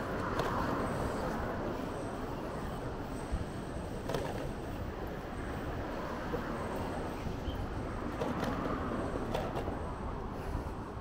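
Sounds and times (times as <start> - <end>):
bicycle road rumble: 0.0 - 11.0
traffic noise: 0.0 - 11.0.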